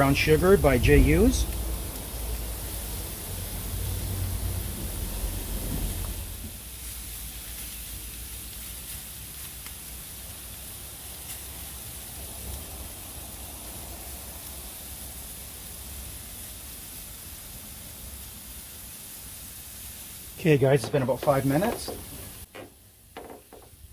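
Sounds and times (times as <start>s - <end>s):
meat sizzling on a grill: 0.0s - 23.9s.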